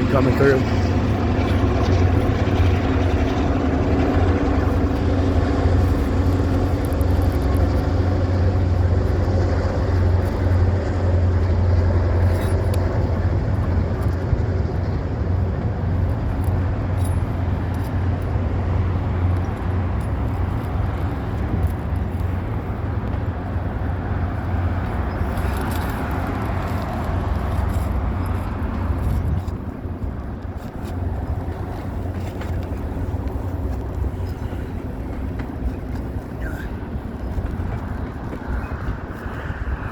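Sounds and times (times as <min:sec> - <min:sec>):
train rumble and engine hum: 0:00.0 - 0:39.9.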